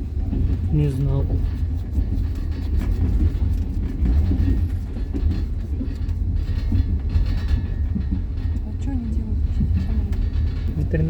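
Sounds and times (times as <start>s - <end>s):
train rumbling: 0.0s - 11.0s
wheels clacking over rail joints: 0.0s - 11.0s.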